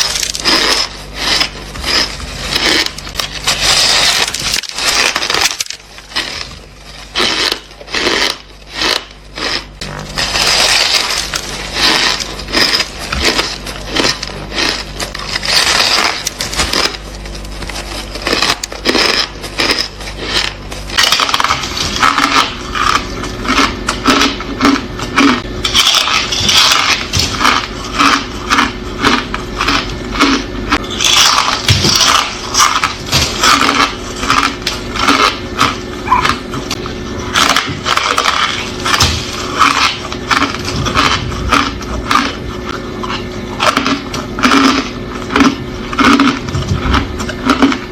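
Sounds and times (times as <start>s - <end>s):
ice being chewed: 0.0s - 47.9s.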